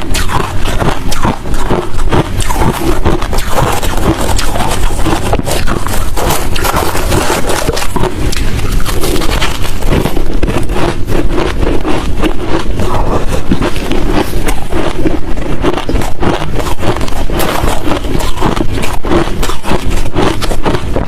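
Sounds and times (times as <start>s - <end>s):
ice being chewed crunchily: 0.0s - 21.0s.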